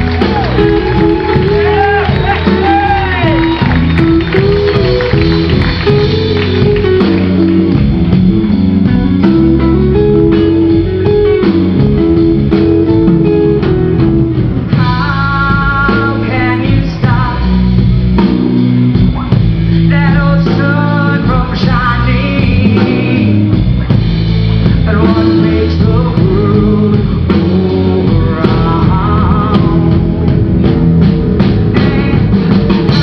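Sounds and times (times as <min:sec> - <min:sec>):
live band playing slow ballad: 0:00.0 - 0:33.0.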